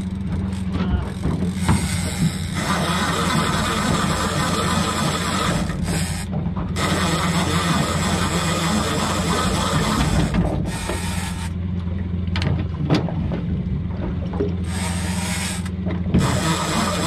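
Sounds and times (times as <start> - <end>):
fishing reel drag screaming: 0.0 - 11.6, 14.6 - 17.0
outboard motor humming: 0.0 - 17.0.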